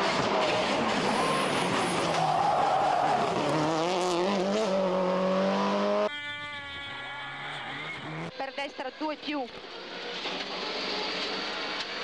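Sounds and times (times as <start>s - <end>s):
tyre and road noise: 0.0s - 6.1s, 6.9s - 12.0s.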